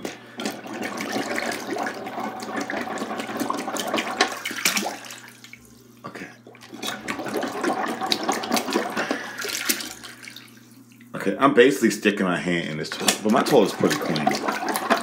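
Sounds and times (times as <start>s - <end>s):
water sloshing in toilet bowl: 0.0s - 11.4s, 12.8s - 15.0s.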